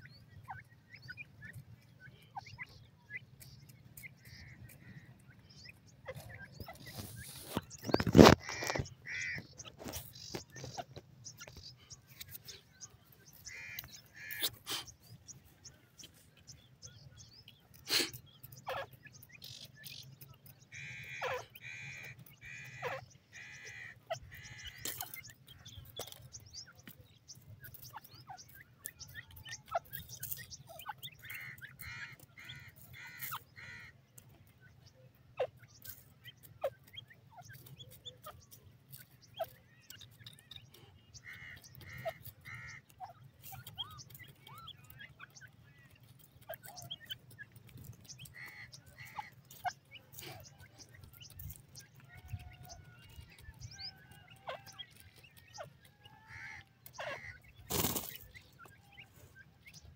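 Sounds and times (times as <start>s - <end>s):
birds scratching in pebbly soil: 0.0s - 59.9s.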